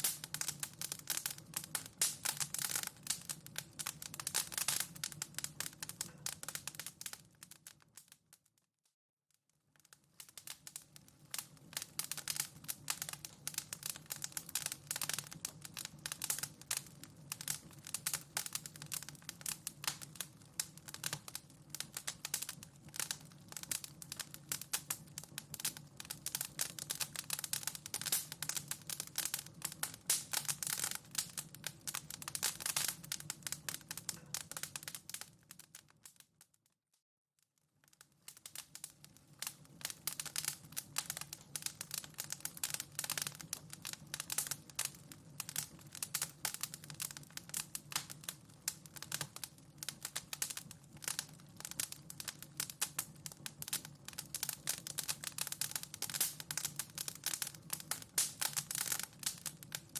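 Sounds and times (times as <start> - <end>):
wood fire crackling: 0.0 - 8.5, 9.7 - 36.6, 37.8 - 59.9.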